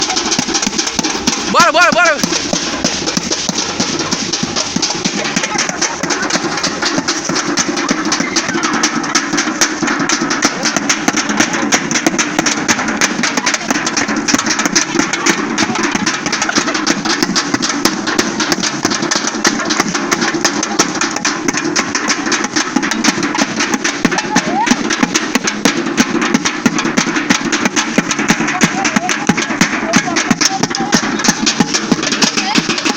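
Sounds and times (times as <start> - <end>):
percussion band drumming: 0.0 - 32.9.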